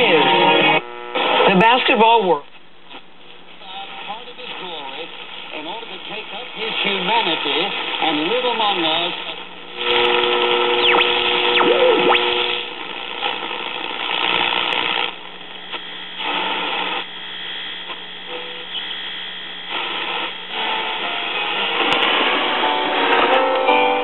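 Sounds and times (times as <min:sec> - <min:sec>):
radio static hiss: 0:00.0 - 0:23.4
faint distant radio stations: 0:00.0 - 0:23.8.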